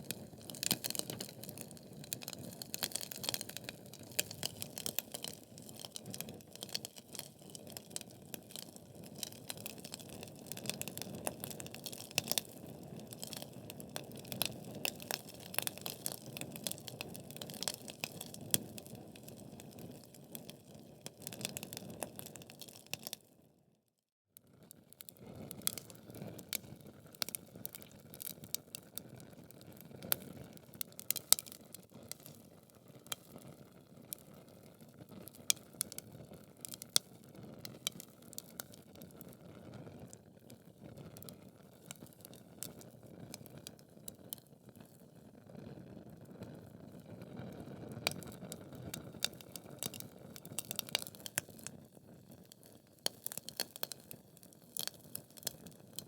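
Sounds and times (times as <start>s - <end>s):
logs crackling and popping: 0.0s - 23.2s, 25.1s - 39.4s, 41.1s - 44.5s, 47.6s - 56.0s.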